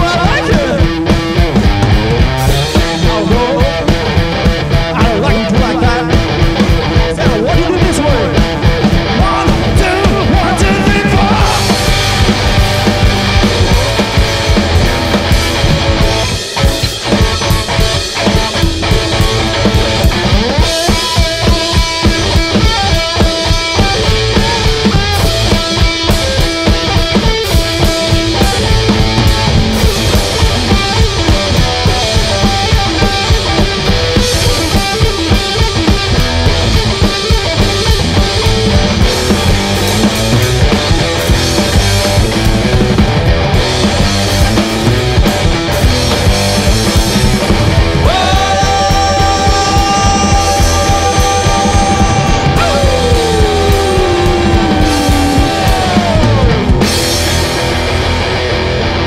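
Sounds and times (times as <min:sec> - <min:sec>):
drum kit beat: 0:00.0 - 0:59.0
punk rock band playing live: 0:00.0 - 0:59.0.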